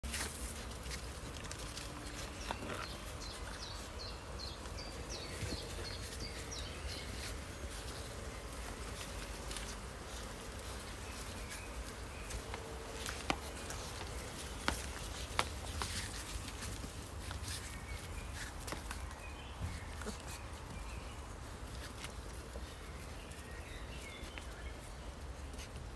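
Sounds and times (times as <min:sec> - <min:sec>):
paws rustling on grass: 0:00.0 - 0:25.9
songbird chirping: 0:00.0 - 0:25.9.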